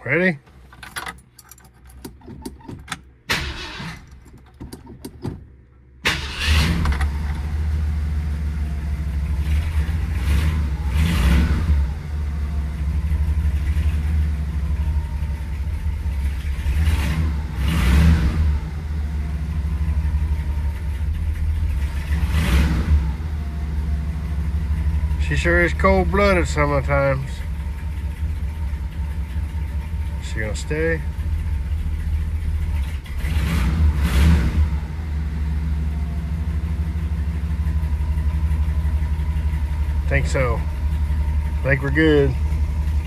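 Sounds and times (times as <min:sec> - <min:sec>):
engine starting and rumbling: 0:00.0 - 0:43.0.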